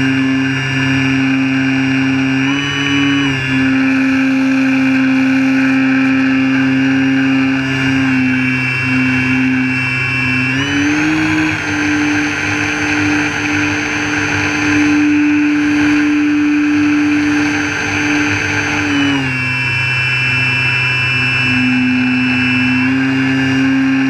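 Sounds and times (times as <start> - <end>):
model airplane motor whining: 0.0 - 24.0.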